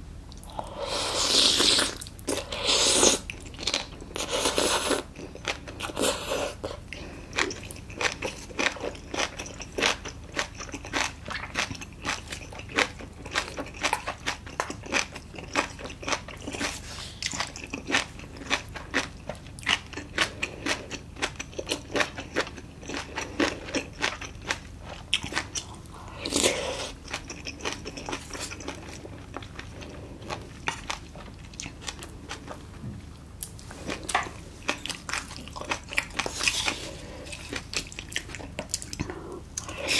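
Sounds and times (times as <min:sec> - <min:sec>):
crunchy chewing: 0:00.3 - 0:32.8, 0:33.4 - 0:39.9.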